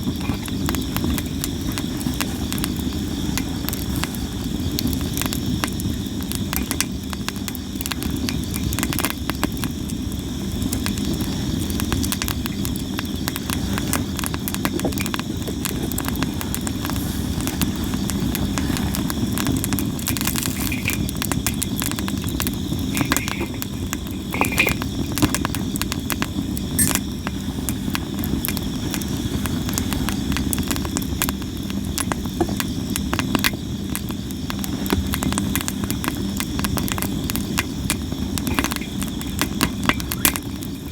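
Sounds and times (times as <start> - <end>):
campfire crackling and popping: 0.0 - 40.9
faint insect chirring: 0.0 - 40.9.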